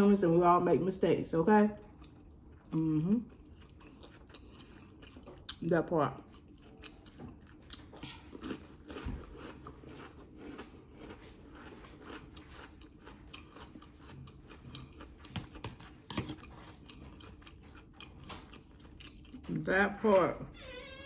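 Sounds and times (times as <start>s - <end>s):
wet crunching chewing: 1.8s - 19.5s.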